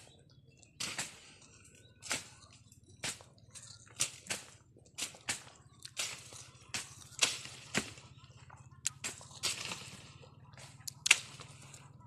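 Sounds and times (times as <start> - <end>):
rustling through undergrowth: 0.7 - 12.0.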